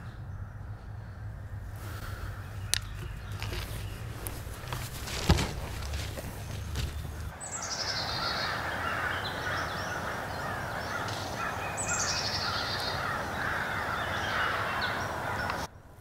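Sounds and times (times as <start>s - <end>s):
high falling bird trill: 0.0s - 15.7s
busy bird chatter: 0.0s - 15.9s.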